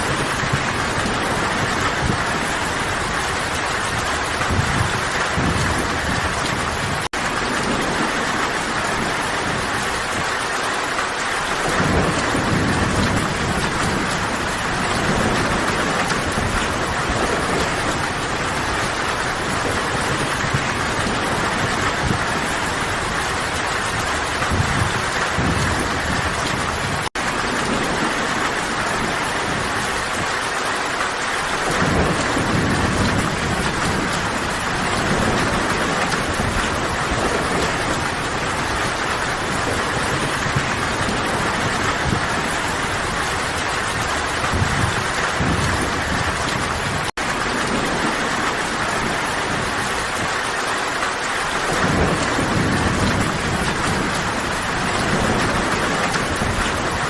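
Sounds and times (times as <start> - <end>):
distant thunder rumbles: 0.0 - 57.0
heavy rain falling: 0.0 - 57.0.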